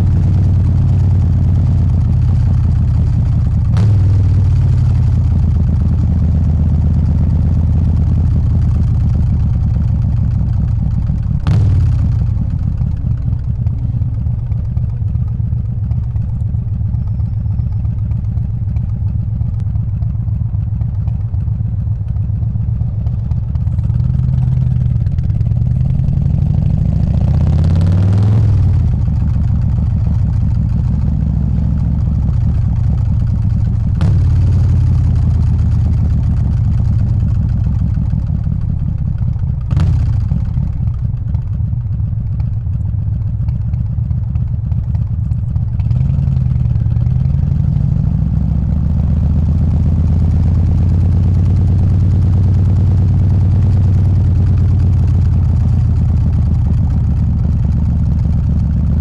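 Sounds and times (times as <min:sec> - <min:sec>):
motorcycle engine running at low revs: 0:00.0 - 0:59.0.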